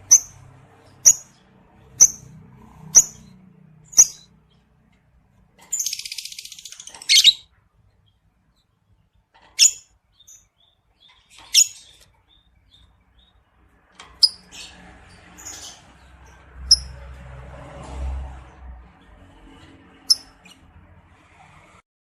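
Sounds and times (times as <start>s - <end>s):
bird chirping: 0.0s - 17.1s, 19.6s - 20.7s.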